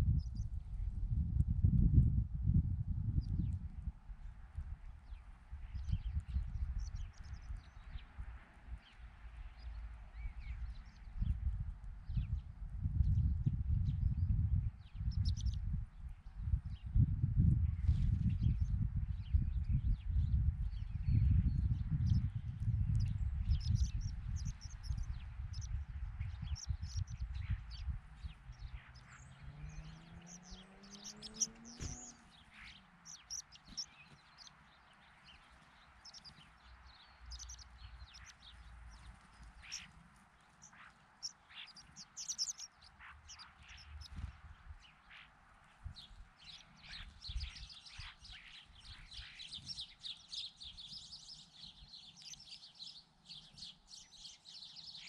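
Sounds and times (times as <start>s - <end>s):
small birds chirping: 0.0s - 0.9s, 3.0s - 55.0s.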